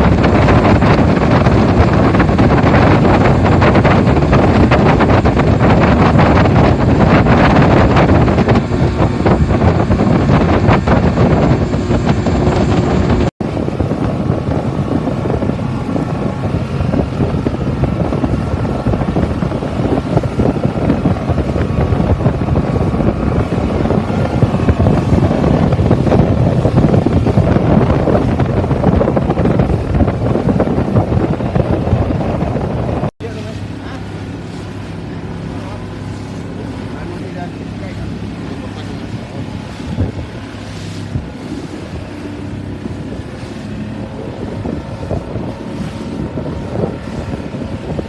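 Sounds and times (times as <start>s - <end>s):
boat engine running at speed: 0.0s - 48.0s
wind buffeting microphone: 0.0s - 48.0s.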